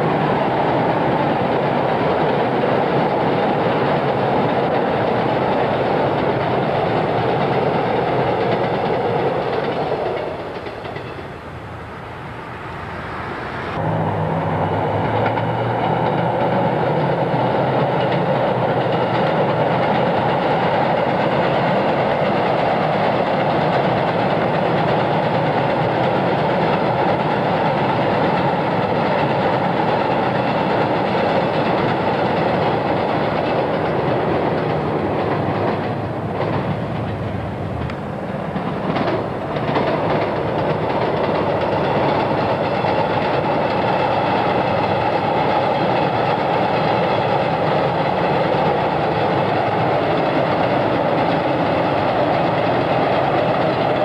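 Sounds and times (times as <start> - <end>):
trains rolling across steel viaduct: 0.0 - 54.0.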